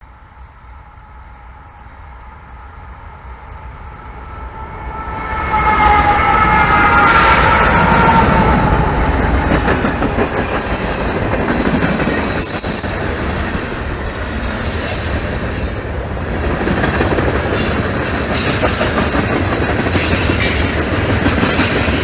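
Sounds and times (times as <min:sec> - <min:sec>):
train rumbling past: 0:00.1 - 0:22.0.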